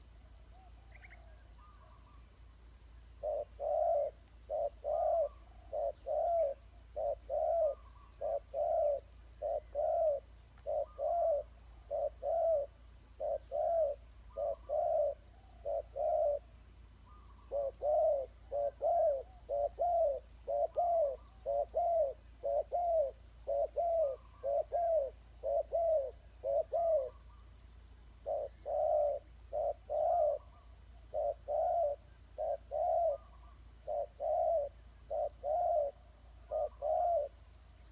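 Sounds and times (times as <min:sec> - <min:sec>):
bird cooing: 0:00.0 - 0:37.9.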